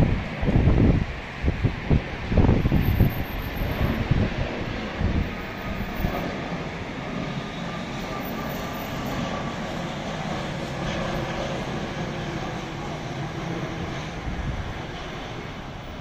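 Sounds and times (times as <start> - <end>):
jet airliner engines: 0.0 - 16.0.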